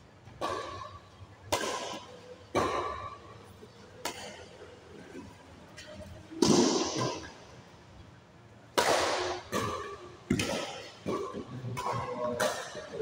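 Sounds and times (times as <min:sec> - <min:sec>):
rackets hitting shuttlecock: 0:00.2 - 0:07.7, 0:08.6 - 0:13.0.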